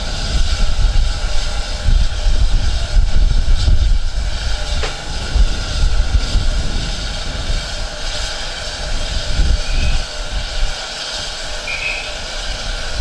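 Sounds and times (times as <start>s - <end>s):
steam train rumbling: 0.0s - 13.0s.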